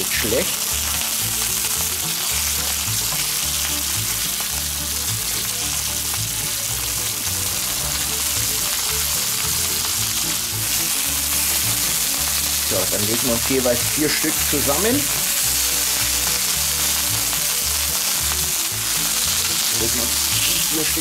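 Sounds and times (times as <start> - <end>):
food sizzling on a hot plate: 0.0 - 21.0.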